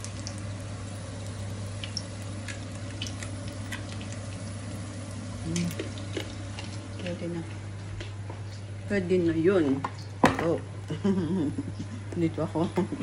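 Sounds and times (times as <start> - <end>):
fish frying in a pan: 0.0 - 11.6
hot oil crackling and popping: 0.0 - 13.0
steady low hum: 0.0 - 13.0.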